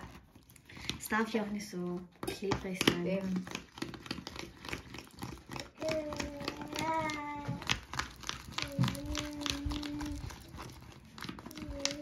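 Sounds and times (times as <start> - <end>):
spoon stirring slime: 0.0 - 12.0.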